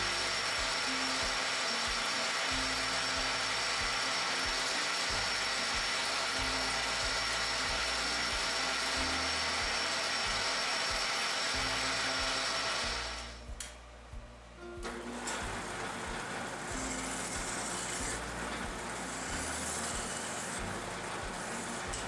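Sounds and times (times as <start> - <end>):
metal lathe grinding with whine: 0.0 - 13.4, 15.2 - 22.0
quiet background music: 0.0 - 22.0.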